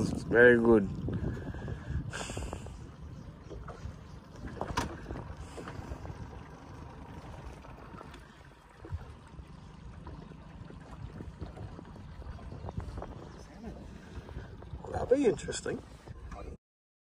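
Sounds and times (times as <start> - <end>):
boat engine rumble: 0.0 - 16.6.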